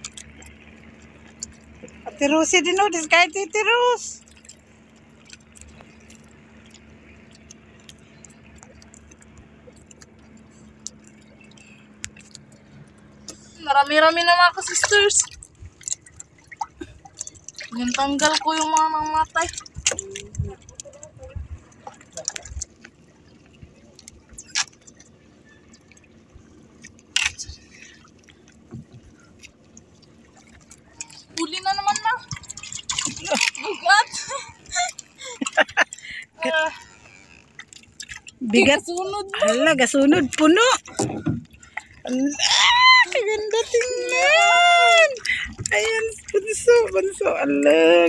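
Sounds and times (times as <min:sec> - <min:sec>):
light water sounds: 0:00.0 - 0:48.0.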